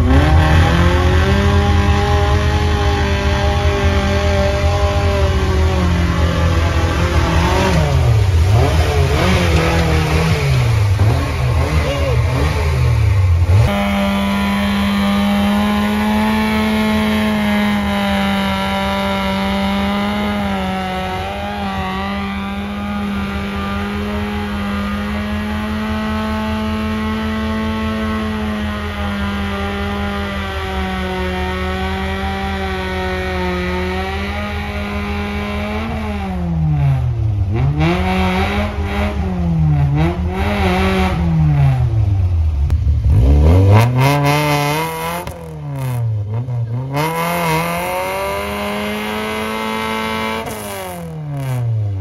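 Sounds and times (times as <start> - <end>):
off-road vehicle engine revving: 0.0 - 52.0.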